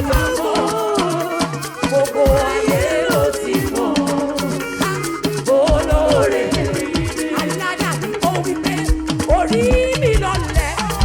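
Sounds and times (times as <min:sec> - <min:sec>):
held tone: 0:00.0 - 0:09.2.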